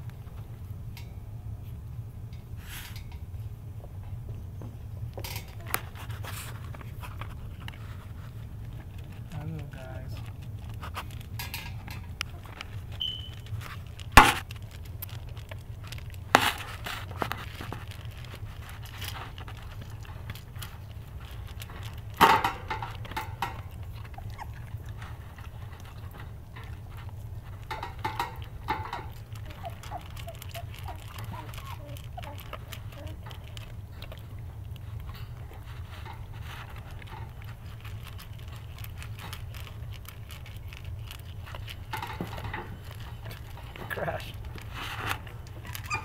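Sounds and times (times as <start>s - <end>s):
kibble crunching in metal bowl: 4.8s - 46.0s.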